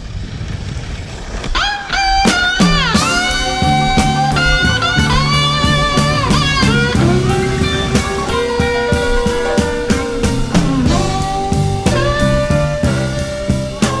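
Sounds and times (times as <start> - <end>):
blues guitar with bent notes: 1.5 - 14.0
drum beat: 2.2 - 14.0.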